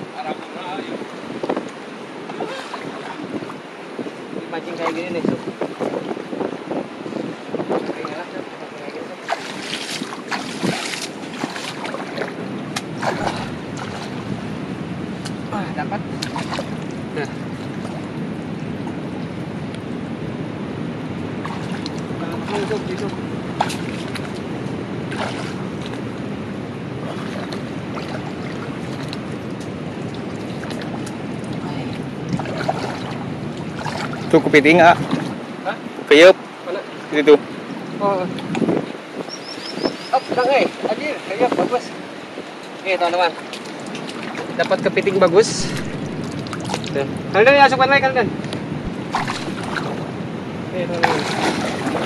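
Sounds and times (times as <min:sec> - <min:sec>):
water sloshing and splashing: 0:00.0 - 0:20.0, 0:21.1 - 0:52.0.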